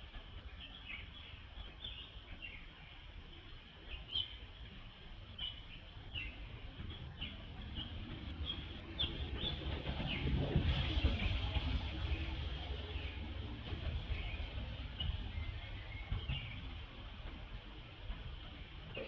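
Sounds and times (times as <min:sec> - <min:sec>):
low outdoor rumble: 0:00.0 - 0:19.0
small birds chirping: 0:00.4 - 0:10.4, 0:12.1 - 0:19.0.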